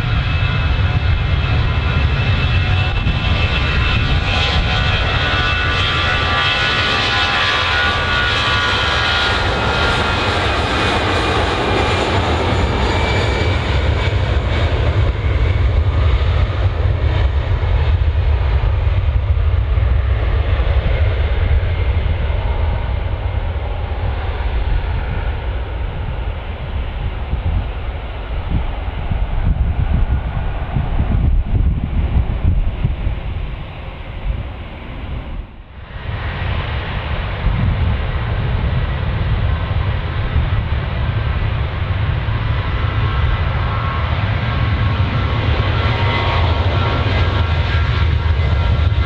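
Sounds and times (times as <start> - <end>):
jet engine fan whine: 0.0 - 49.0
jet engine low rumble: 0.0 - 49.0.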